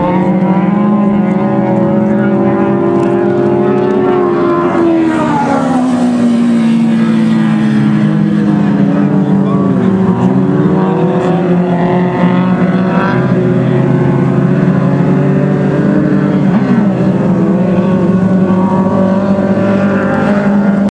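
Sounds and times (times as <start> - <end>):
race car engines revving: 0.0 - 20.9.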